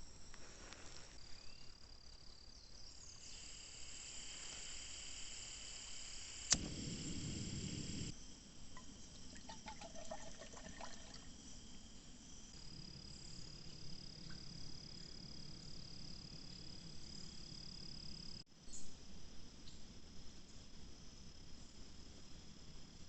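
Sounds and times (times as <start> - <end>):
high insect trill: 0.0 - 18.8.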